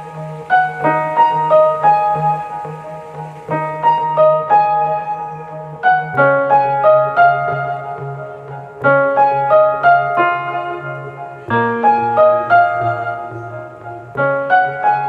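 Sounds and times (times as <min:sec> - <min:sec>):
piano melody over bass notes: 0:00.0 - 0:15.0.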